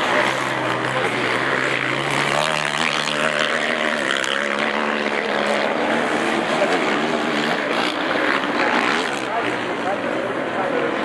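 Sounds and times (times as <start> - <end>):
quad engine revving: 0.0 - 11.0.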